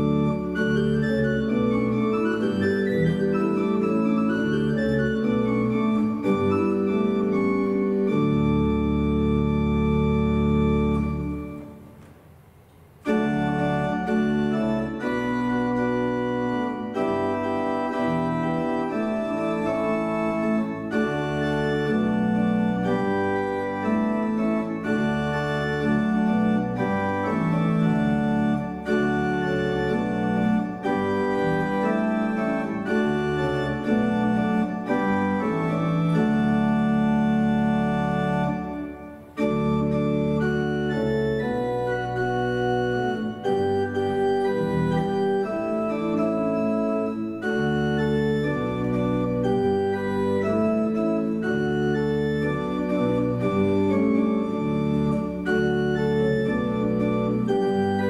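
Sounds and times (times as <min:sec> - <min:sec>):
pipe organ playing chords: 0:00.0 - 0:58.0.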